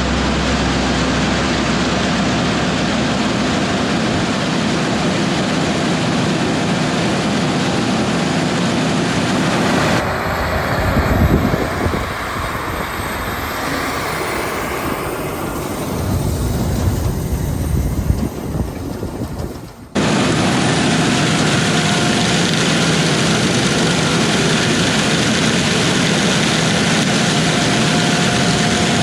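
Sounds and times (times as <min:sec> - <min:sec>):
harvest machinery running: 0:00.0 - 0:29.0.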